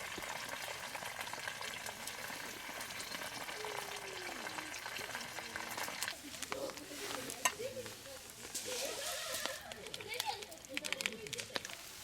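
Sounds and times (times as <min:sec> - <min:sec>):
chicken deep-frying in oil: 0:00.0 - 0:10.5.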